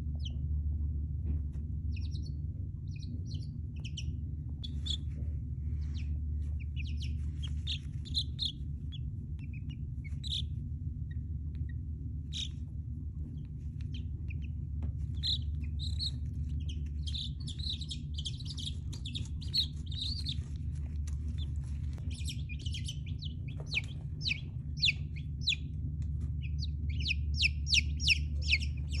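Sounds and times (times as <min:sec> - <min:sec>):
chicks peeping: 0:00.0 - 0:00.5, 0:01.8 - 0:29.0
steady low hum: 0:00.0 - 0:29.0.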